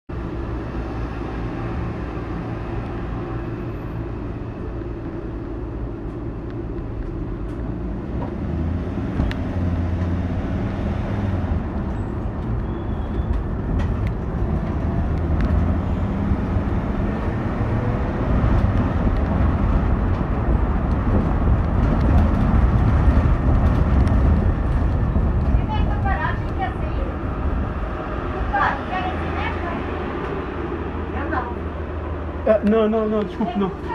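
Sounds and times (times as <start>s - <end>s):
car engine and road noise: 0.1s - 33.9s.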